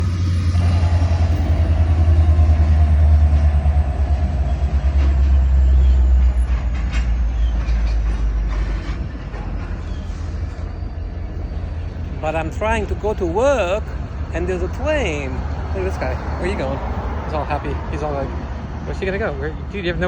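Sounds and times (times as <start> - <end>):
train rumbling: 0.0 - 20.0
wheels clacking on rails: 0.0 - 20.0.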